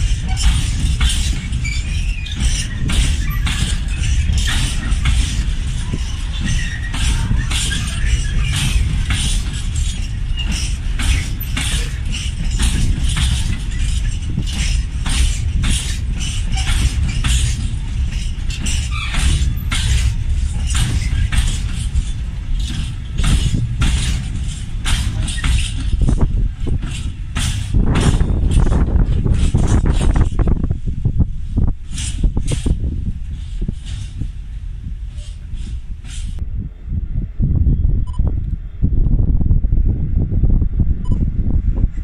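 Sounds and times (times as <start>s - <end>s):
wheel clacks over rail joints: 0.0s - 36.4s
train rumbling: 0.0s - 42.0s.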